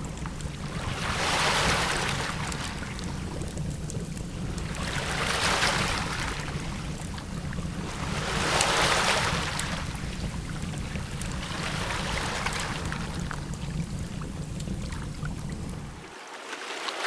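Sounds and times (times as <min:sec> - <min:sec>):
steady low rumble: 0:00.0 - 0:16.0
wind on microphone: 0:00.0 - 0:16.0
ocean surf washing: 0:00.0 - 0:17.0.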